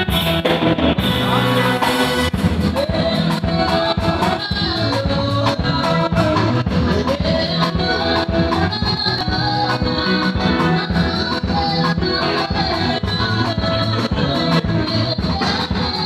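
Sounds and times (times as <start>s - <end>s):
background music with guitar: 0.0s - 16.0s.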